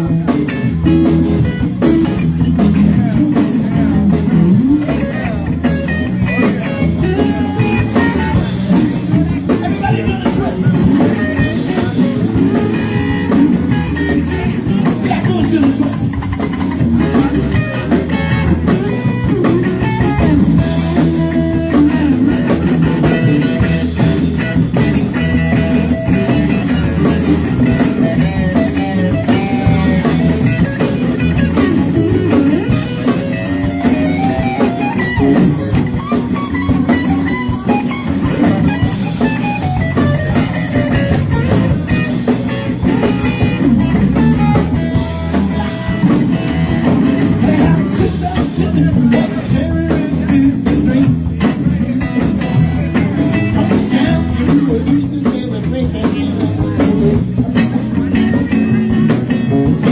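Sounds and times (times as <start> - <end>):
electric guitar lead: 0.0 - 59.9
live rock band jamming: 0.0 - 59.9.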